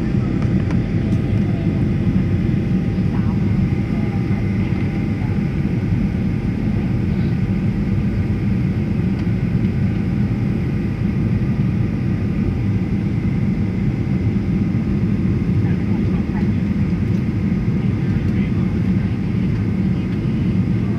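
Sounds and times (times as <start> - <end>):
jet engine cabin rumble: 0.0 - 20.9.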